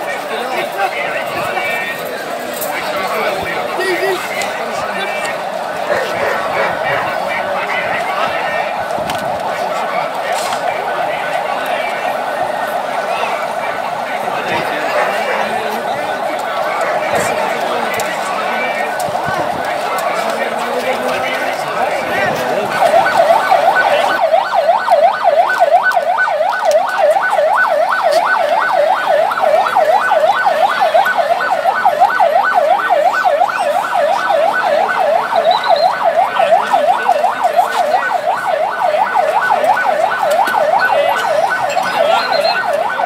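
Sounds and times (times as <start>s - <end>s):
electronic siren yelping: 0.3s - 43.0s.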